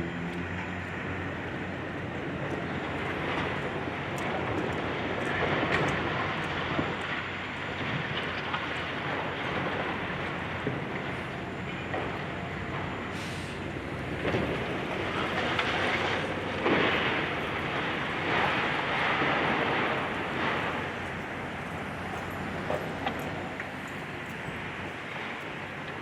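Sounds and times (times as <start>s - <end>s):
excavator demolition rumbling and crunching: 0.4s - 26.0s.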